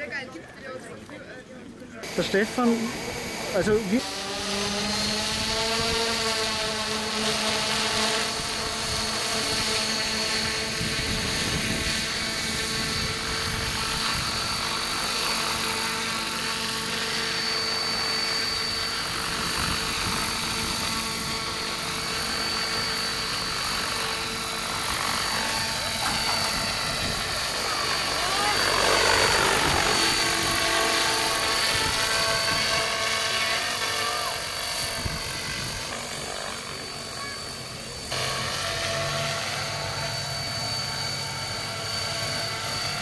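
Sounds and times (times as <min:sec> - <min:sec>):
model helicopter motor and rotors whining: 0:00.0 - 0:43.0.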